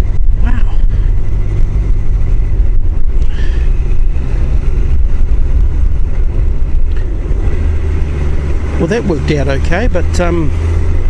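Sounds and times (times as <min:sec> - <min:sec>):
motorcycle engine running: 0:00.0 - 0:11.0
wind rush: 0:00.0 - 0:11.0.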